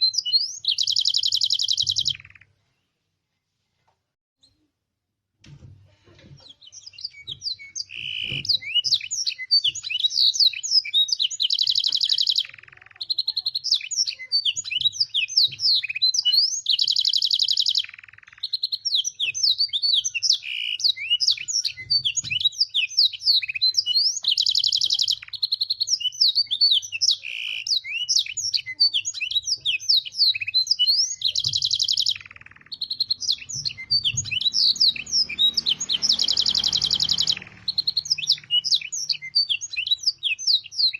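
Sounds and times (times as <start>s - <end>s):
canary singing: 0.0s - 2.6s, 6.4s - 40.9s.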